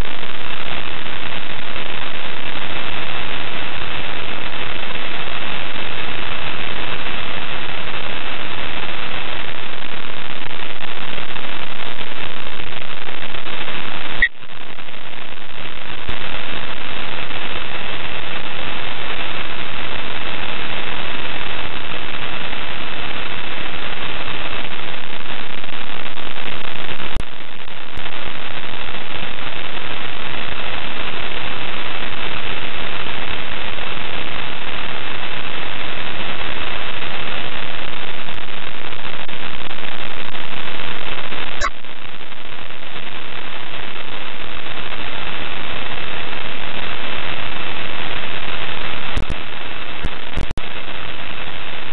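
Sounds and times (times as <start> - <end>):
radio static hiss: 0.0 - 51.9.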